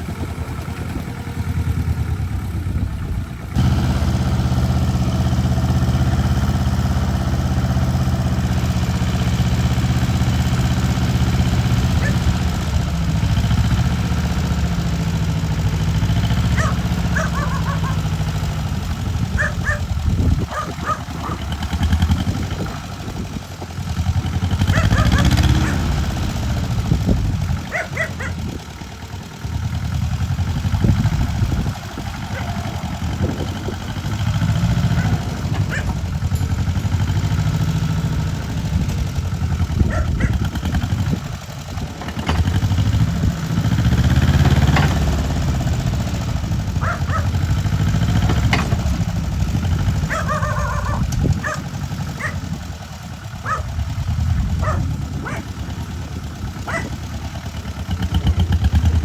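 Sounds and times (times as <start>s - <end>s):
excavator diesel engine droning: 0.0s - 59.0s.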